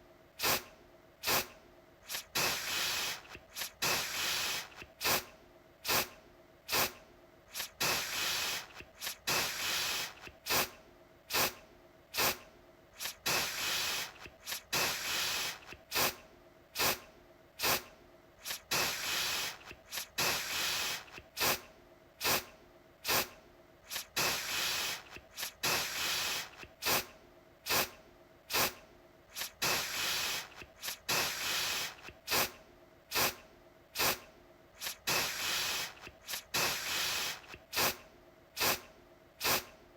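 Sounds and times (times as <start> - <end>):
aerosol can spraying: 0.4 - 6.1, 6.7 - 11.6, 12.2 - 12.4, 13.0 - 16.2, 16.8 - 17.0, 17.6 - 21.6, 22.2 - 23.3, 23.9 - 27.1, 27.7 - 33.4, 34.0 - 34.2, 34.8 - 38.0, 38.6 - 39.7.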